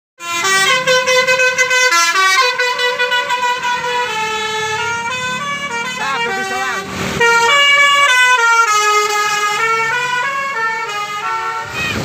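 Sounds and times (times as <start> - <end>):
multi-tone musical air horn: 0.2 - 12.0.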